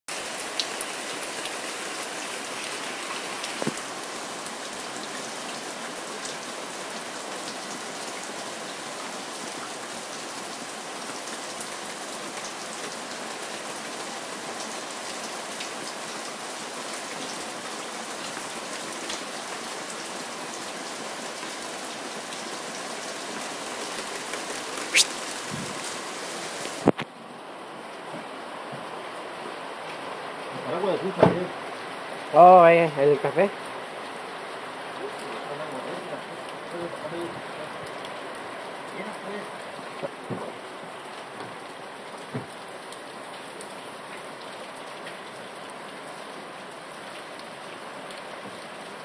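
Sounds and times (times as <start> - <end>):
rain falling: 0.1 - 49.0.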